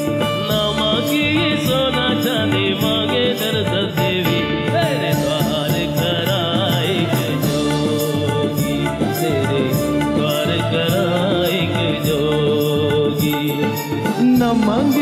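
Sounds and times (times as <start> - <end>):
keyboard: 0.0 - 15.0
steady percussion beat: 0.0 - 15.0
wavering lead melody: 0.0 - 15.0.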